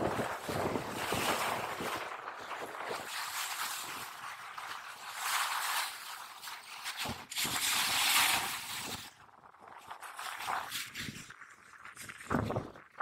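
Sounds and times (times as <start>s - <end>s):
wind buffeting microphone: 0.0s - 5.2s, 7.0s - 13.0s.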